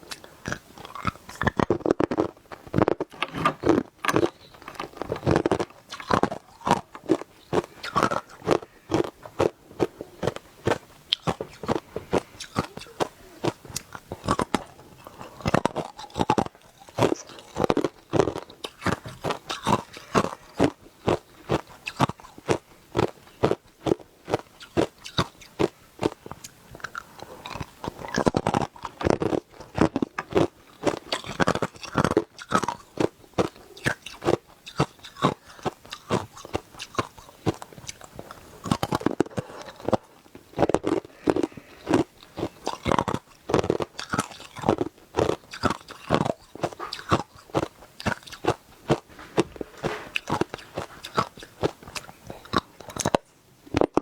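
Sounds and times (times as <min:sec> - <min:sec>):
person chewing hard ice: 0:00.0 - 0:54.0.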